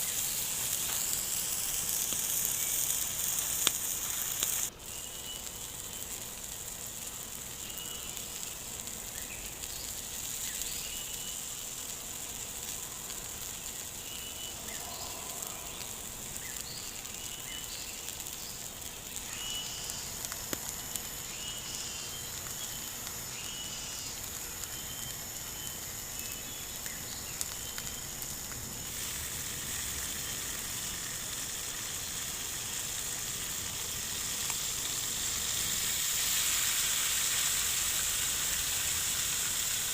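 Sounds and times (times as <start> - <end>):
meat sizzling on hot stone: 0.0 - 39.9.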